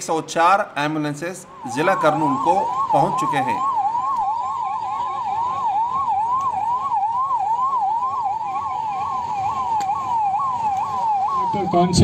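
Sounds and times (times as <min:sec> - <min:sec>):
ambulance siren yelping: 0:00.0 - 0:12.0.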